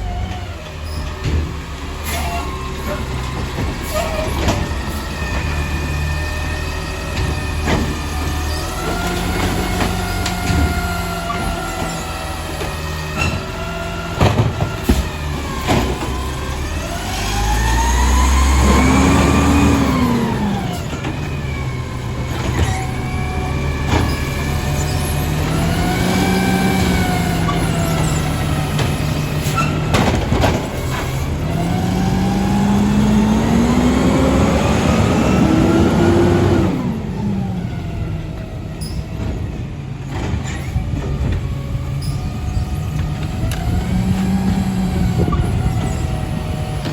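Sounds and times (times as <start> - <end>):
garbage truck engine revving: 0.0 - 46.9.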